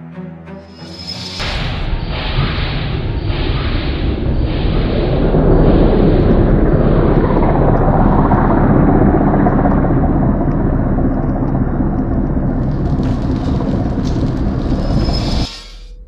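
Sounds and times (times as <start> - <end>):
low rumble with droning hum: 1.9 - 16.0.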